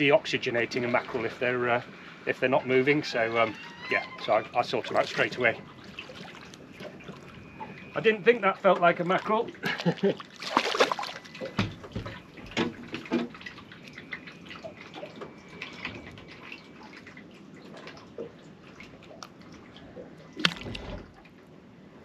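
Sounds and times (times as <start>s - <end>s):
water dripping and sloshing: 0.0s - 21.6s.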